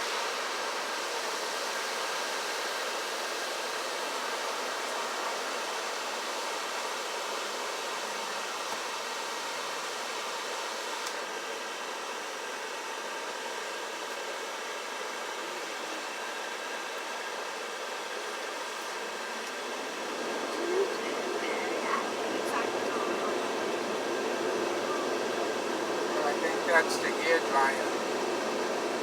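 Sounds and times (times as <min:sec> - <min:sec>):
air dryer blowers blasting: 0:00.0 - 0:15.4, 0:16.2 - 0:29.0.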